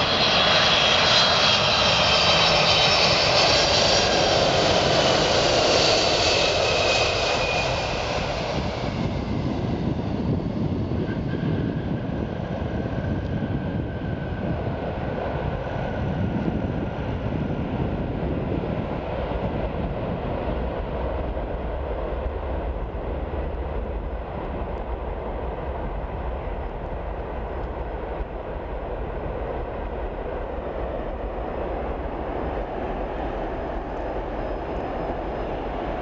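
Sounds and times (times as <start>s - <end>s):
jet engine rumble and whine: 0.0s - 36.0s.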